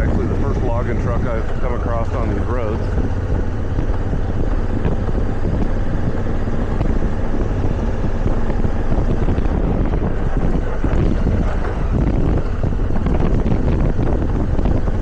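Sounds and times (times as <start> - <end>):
motorcycle engine drone: 0.0 - 15.0
wind rushing over microphone: 0.0 - 15.0.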